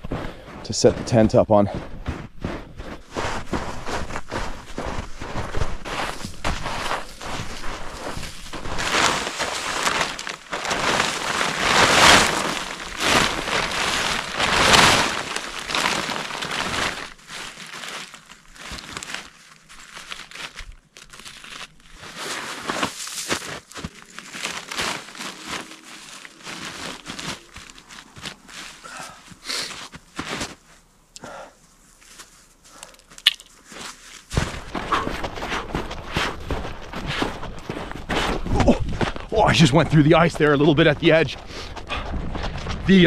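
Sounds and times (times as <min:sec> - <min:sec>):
boots crunching snow: 0:00.0 - 0:43.0
tent fabric rustling: 0:03.0 - 0:30.9, 0:31.7 - 0:32.8, 0:33.5 - 0:39.8.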